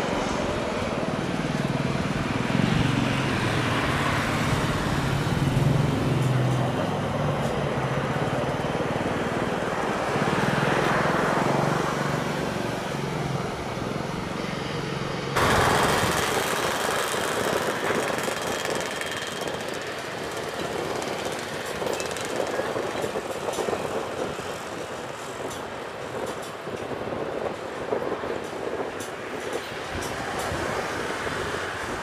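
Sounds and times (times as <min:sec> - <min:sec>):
jet noise on approach: 0:00.0 - 0:32.0.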